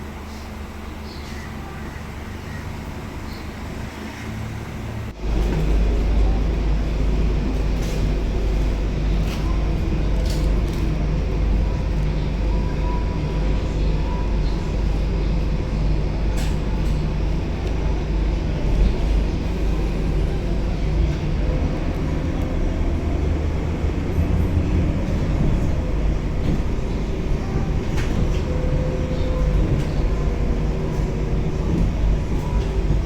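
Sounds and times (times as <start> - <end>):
bus engine: 0.0 - 33.0
bus body rattles: 4.8 - 33.0.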